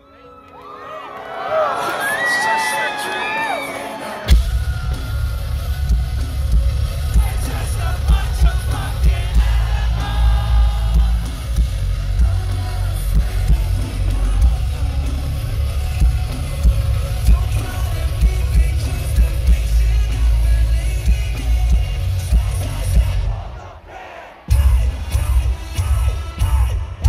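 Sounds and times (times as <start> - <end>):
crowd voices: 0.0 - 27.0
heavy metal band playing live: 3.2 - 23.6, 24.5 - 27.0.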